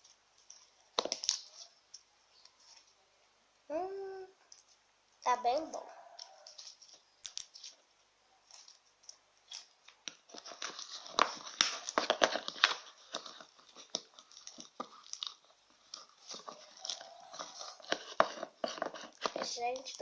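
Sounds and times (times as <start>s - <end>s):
slime squelching clicks and crackles: 0.4s - 2.9s, 5.7s - 7.8s, 8.4s - 20.0s.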